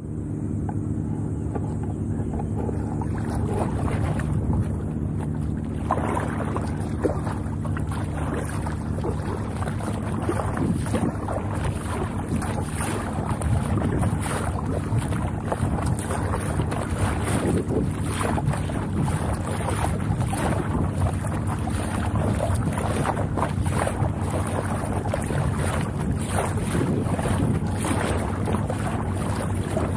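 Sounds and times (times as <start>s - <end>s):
water splashing against boat: 0.0s - 29.9s
wind buffeting microphone: 1.6s - 29.9s.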